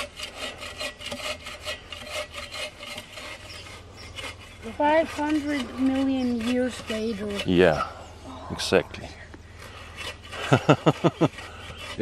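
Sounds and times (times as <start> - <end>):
bow saw cutting log: 0.0 - 7.9, 9.6 - 12.0.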